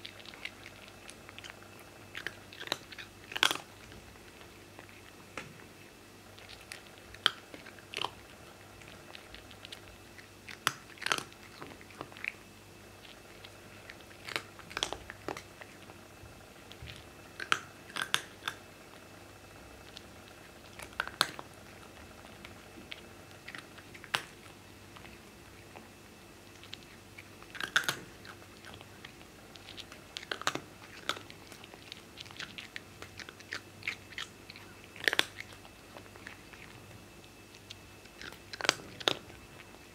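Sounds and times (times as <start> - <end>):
cat crunching dry kibble: 0.0 - 39.9.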